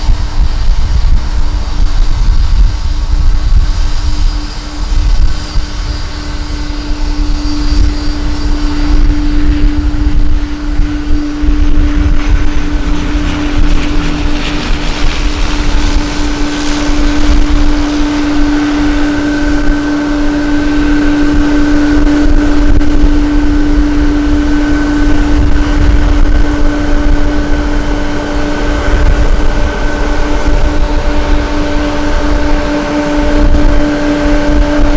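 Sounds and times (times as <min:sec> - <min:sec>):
airliner engines running: 0:00.0 - 0:34.9
wind rumble on microphone: 0:00.0 - 0:34.9.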